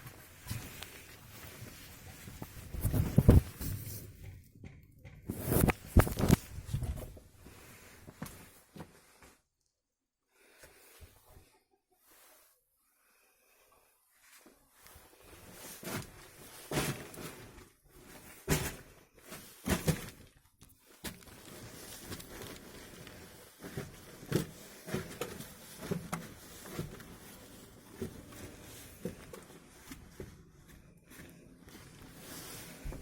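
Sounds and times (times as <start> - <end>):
footsteps in a small room: 0.0 - 9.4, 14.2 - 33.0.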